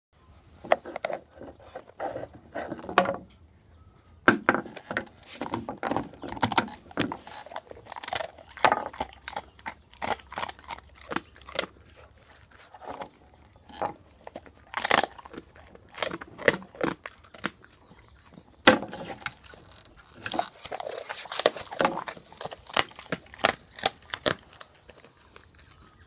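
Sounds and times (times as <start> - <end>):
dog chewing crunchy bone: 0.6 - 3.3, 4.3 - 26.0.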